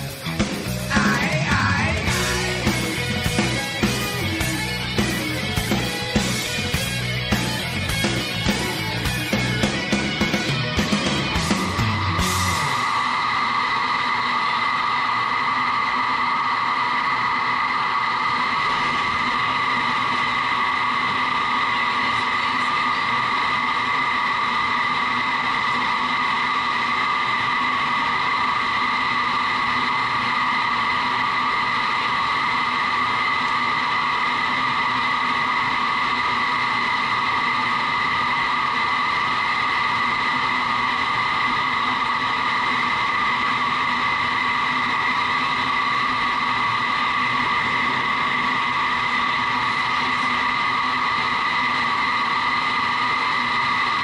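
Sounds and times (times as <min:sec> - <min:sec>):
fan tones: 0:00.0 - 0:54.0
wind tunnel air roar: 0:00.0 - 0:54.0.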